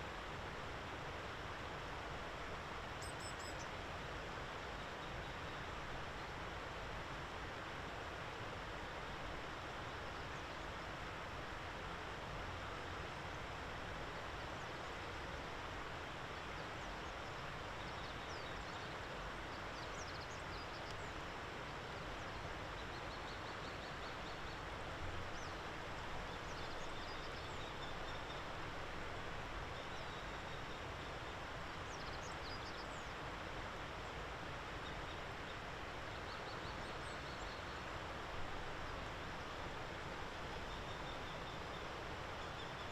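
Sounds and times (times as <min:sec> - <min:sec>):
outdoor background hiss: 0:00.0 - 0:42.9.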